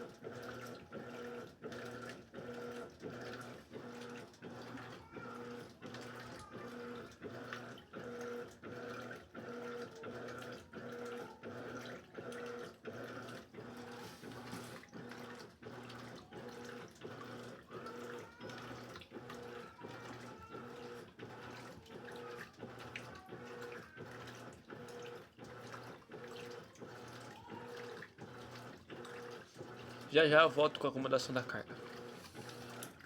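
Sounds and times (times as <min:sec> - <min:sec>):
washing machine motor hum: 0:00.0 - 0:33.0.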